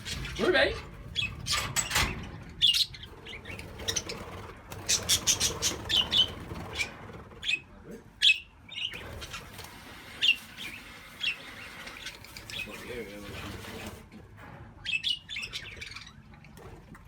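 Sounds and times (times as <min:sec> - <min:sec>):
budgerigars chirping and squawking: 0:00.0 - 0:14.0, 0:14.8 - 0:16.8.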